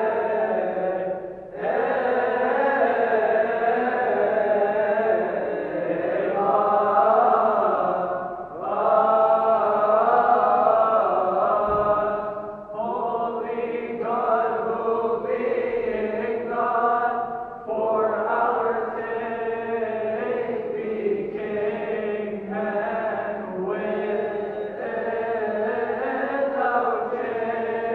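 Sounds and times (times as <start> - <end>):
male choir chanting a hymn: 0.0 - 27.9.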